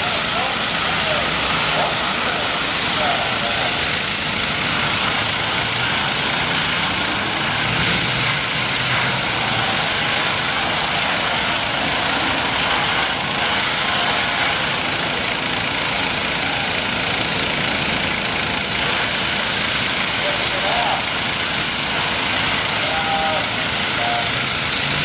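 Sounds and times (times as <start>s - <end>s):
high-pressure water spray: 0.0s - 25.0s
pressure washer engine running: 0.0s - 25.0s.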